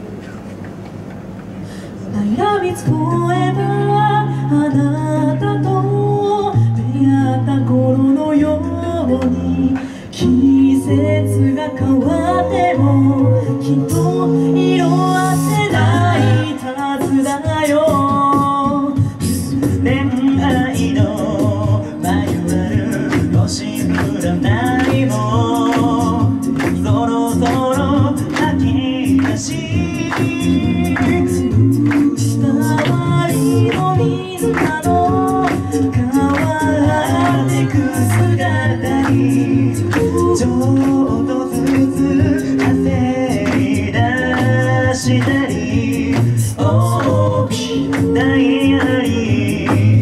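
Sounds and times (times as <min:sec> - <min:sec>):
a cappella group singing: 0:02.1 - 0:50.0
vocal percussion beat: 0:05.6 - 0:50.0.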